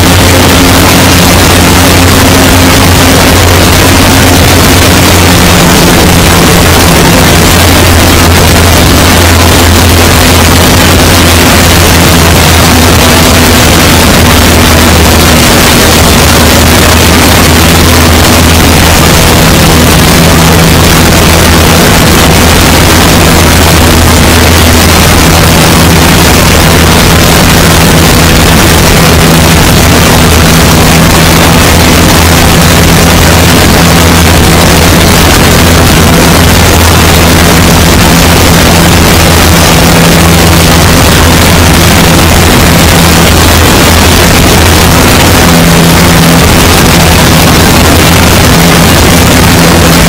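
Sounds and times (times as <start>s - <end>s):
plane engine and propeller droning: 0.0s - 50.0s
wind rushing over microphone: 0.0s - 50.0s.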